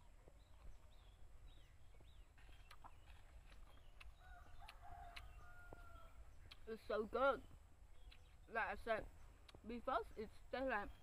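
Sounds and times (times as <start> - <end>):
distant chickens chirping: 0.0 - 9.5.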